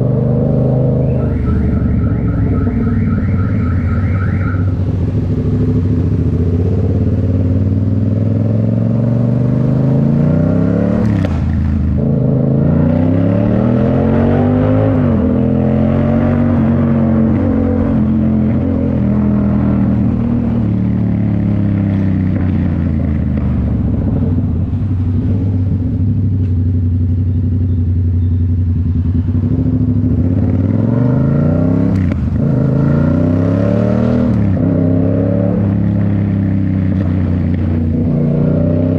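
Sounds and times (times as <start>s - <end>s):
loud motorcycle engine revving: 0.0s - 24.4s, 29.0s - 38.9s.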